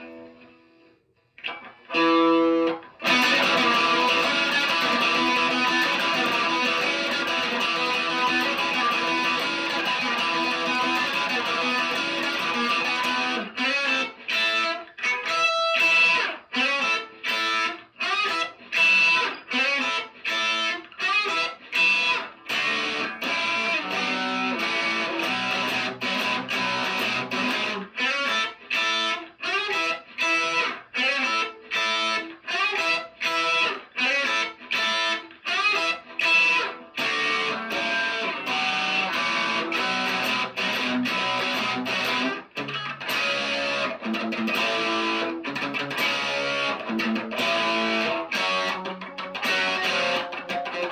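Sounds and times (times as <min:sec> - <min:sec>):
electric guitar chords: 0:00.0 - 0:50.9.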